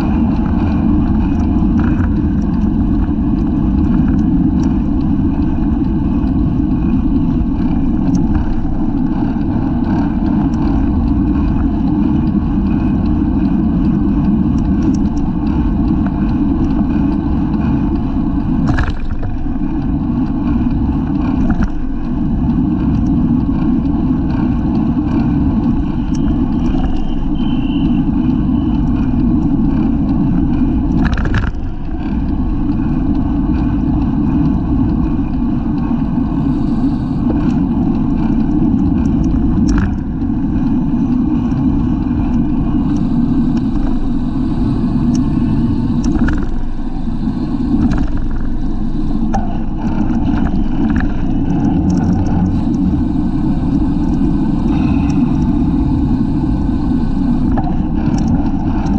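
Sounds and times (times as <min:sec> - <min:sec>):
wind rushing over microphone: 0:00.0 - 0:58.9.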